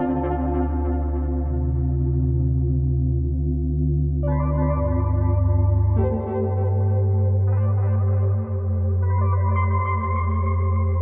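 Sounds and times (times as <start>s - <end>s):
sustained synthesizer chord: 0.0s - 11.0s.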